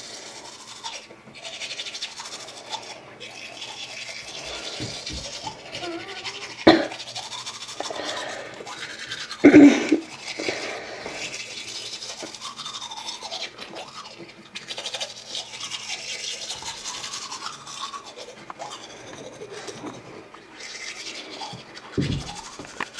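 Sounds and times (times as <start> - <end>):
toothbrush scrubbing teeth: 0.0 - 22.9.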